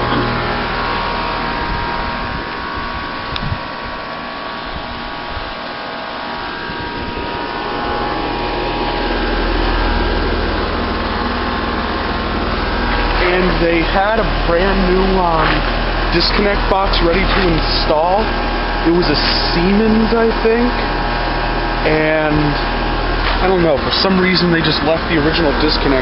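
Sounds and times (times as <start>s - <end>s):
fan noise: 0.0s - 26.0s
heat pump whirring hum: 0.0s - 26.0s.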